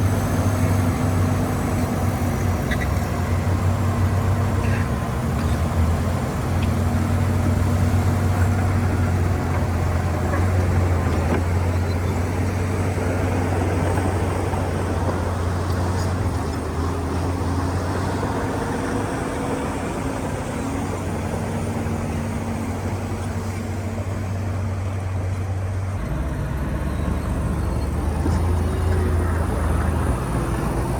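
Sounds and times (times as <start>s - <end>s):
diesel machinery engine drone: 0.0s - 30.9s.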